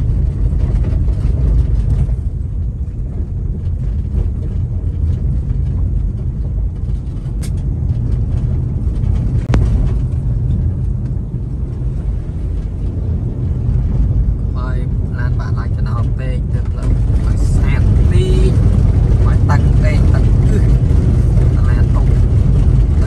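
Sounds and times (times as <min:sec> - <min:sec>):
car rumbling over rough road: 0:00.0 - 0:23.0.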